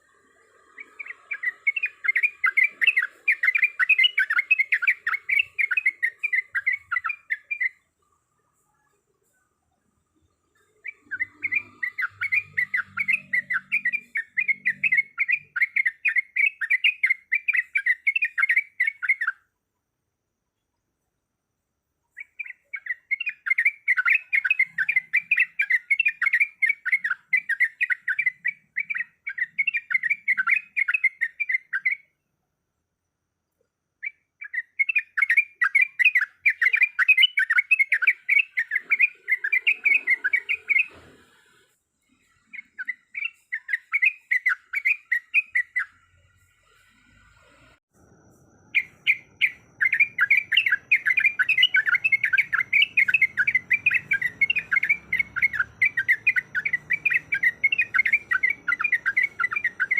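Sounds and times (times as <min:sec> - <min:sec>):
bird singing chattering notes: 0:00.0 - 0:07.9, 0:10.4 - 0:19.4, 0:22.1 - 0:32.1, 0:34.0 - 0:41.0, 0:42.4 - 0:46.0, 0:48.7 - 0:59.9.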